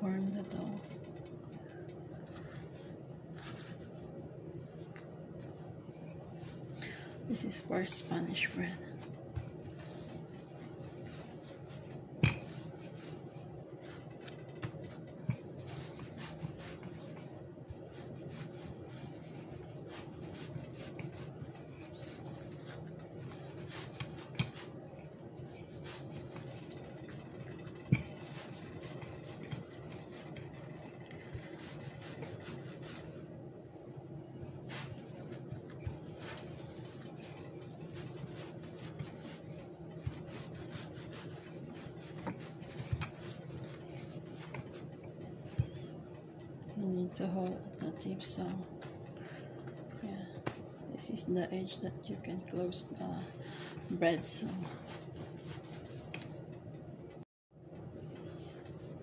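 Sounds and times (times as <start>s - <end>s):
rolling pin rubbing on dough: 0.0s - 57.2s, 57.8s - 59.0s.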